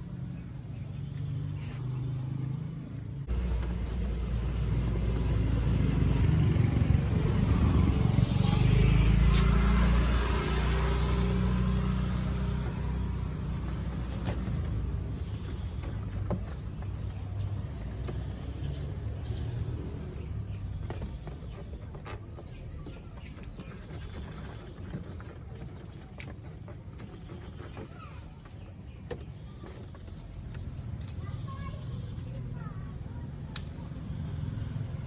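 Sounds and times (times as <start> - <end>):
vehicle engine running: 0.7 - 30.4.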